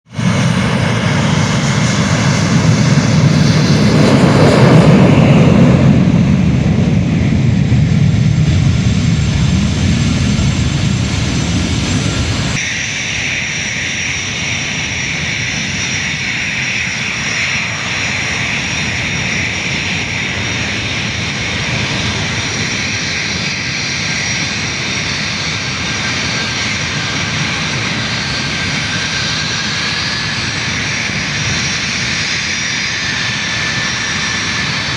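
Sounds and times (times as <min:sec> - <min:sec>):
high jet engine whine: 0:00.0 - 0:34.9
jet engine rumble: 0:00.0 - 0:34.9.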